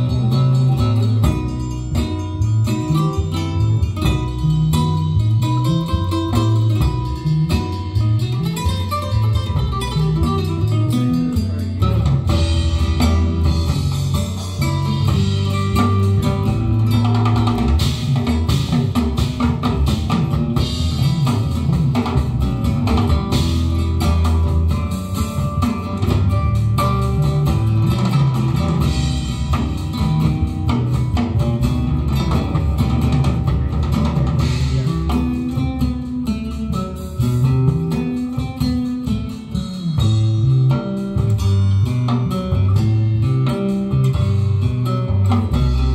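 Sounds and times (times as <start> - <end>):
guitar music with bass and drums: 0.0 - 45.9.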